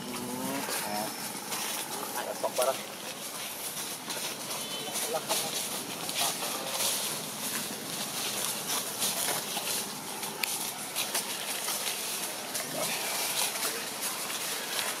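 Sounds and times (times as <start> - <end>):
dry leaves crackling and rustling: 0.0 - 15.0.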